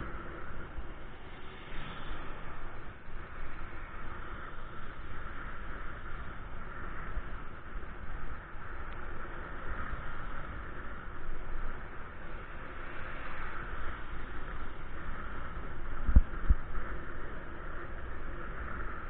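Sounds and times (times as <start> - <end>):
low rumble: 0.0 - 19.0
road noise: 0.0 - 19.0
rushing wind: 0.0 - 19.0
wind buffeting microphone: 0.0 - 19.0.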